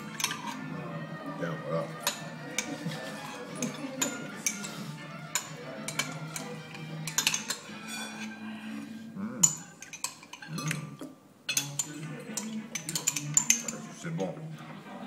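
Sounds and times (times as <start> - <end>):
cutlery and china clinking: 0.0 - 0.8, 1.8 - 14.4
quiet background music: 0.0 - 15.0.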